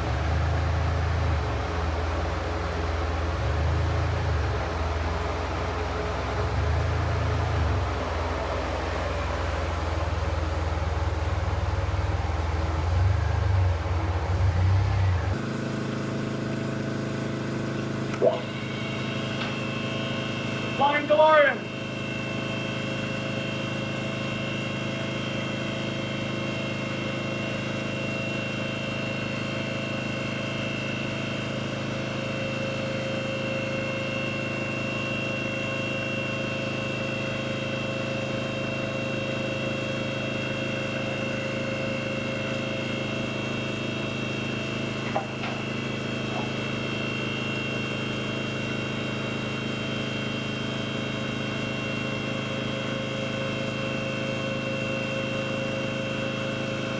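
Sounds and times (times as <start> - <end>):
machine humming steadily: 0.0 - 56.9.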